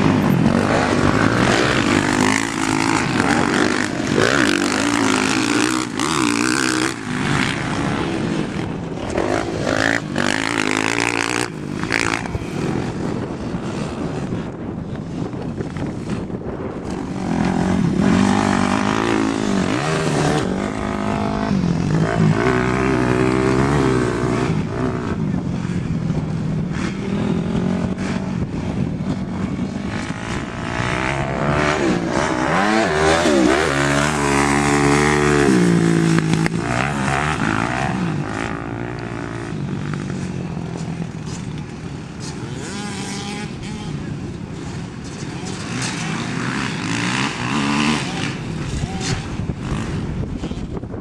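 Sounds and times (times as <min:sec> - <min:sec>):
dirt bike engine revving: 0:00.0 - 0:50.8.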